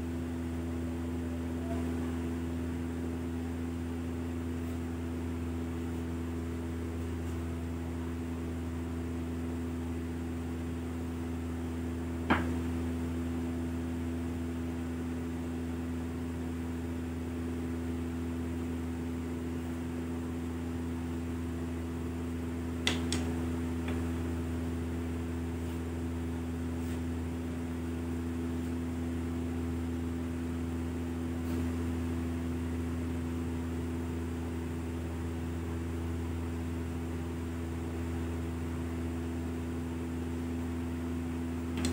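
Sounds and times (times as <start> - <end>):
low machine hum: 0.0 - 41.9.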